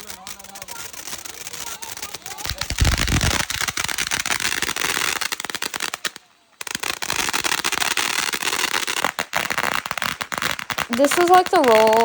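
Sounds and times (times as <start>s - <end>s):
firecrackers popping: 0.0s - 12.0s.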